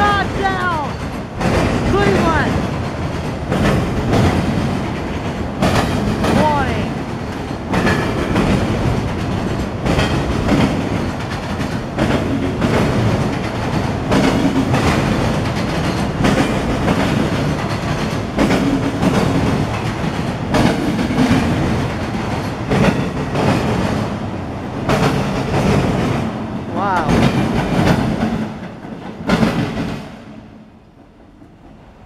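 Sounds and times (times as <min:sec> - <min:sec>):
train wheels rumbling on rails: 0:00.0 - 0:32.0
wheels clacking over rail joints: 0:00.0 - 0:32.0.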